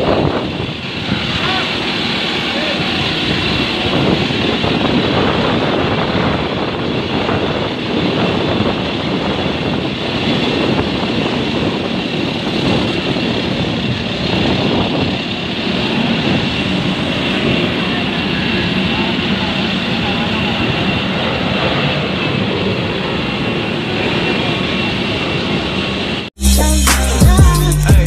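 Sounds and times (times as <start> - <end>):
jet aircraft rushing and whining: 0.0 - 26.4.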